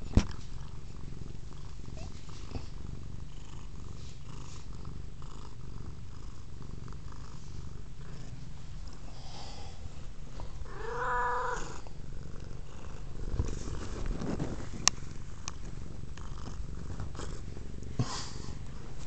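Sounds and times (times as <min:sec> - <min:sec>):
cat purring loudly: 0:00.0 - 0:19.0.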